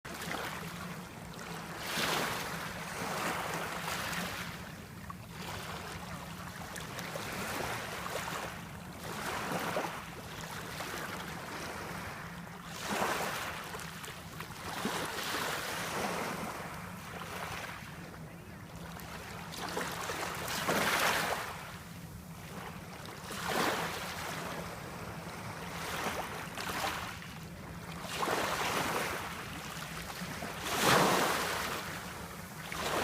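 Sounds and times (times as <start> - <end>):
low steady hum: 0.1 - 33.0
sea waves breaking: 0.1 - 33.0.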